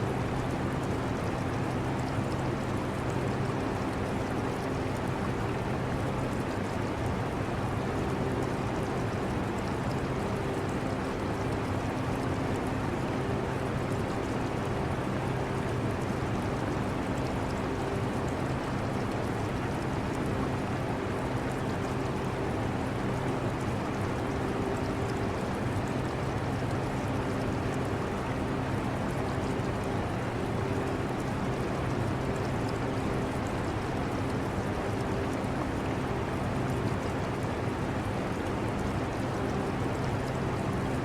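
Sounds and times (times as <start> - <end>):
aquarium water bubbling: 0.2 - 41.0.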